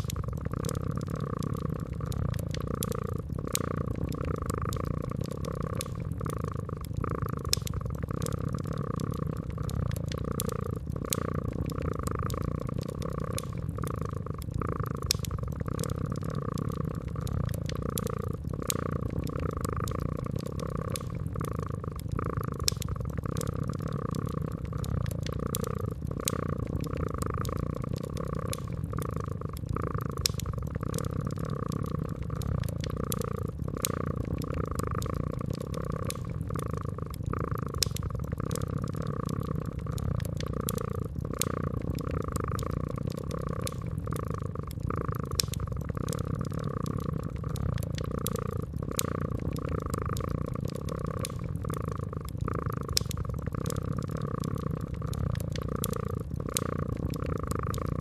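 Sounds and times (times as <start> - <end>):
cat purring: 0.0 - 58.0
wood fire crackling: 0.0 - 58.0.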